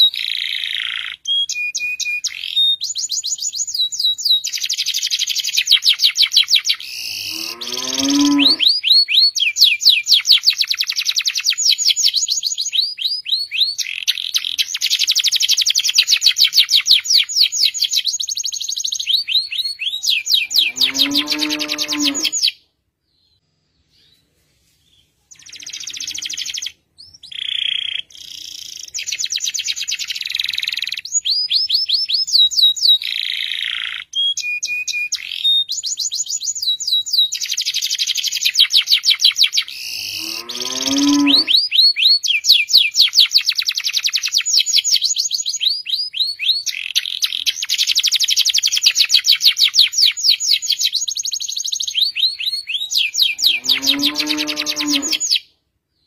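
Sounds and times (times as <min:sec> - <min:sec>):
canary singing trills: 0:00.0 - 0:24.2, 0:25.3 - 0:55.6.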